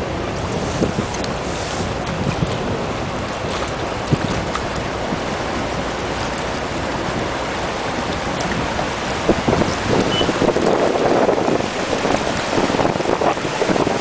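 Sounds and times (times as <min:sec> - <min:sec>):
turbulent water rushing: 0:00.0 - 0:14.0
wind on microphone: 0:00.0 - 0:14.0.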